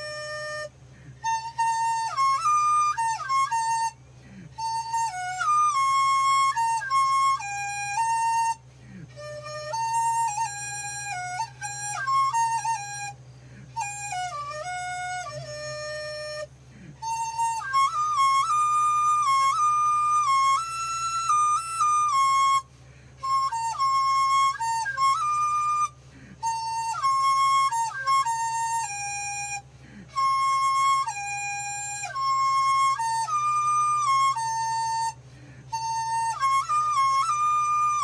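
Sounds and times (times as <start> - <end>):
bamboo flute melody: 0.0 - 38.0
faint low hum: 0.0 - 38.0.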